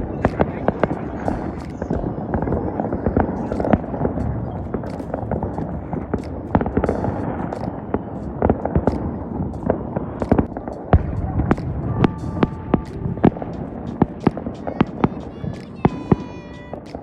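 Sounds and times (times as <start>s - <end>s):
distant explosions rumbling: 0.0s - 17.0s
firecrackers popping and banging: 0.0s - 17.0s.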